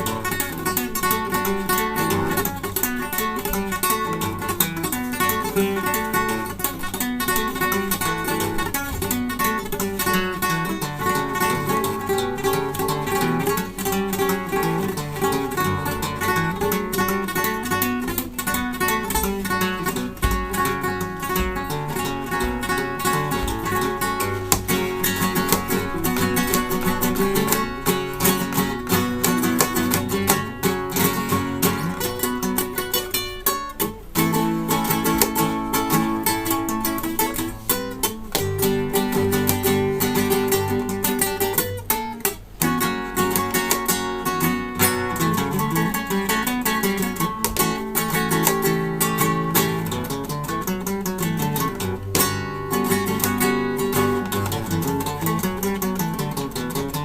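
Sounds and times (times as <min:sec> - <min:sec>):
solo flamenco guitar: 0:00.0 - 0:57.0.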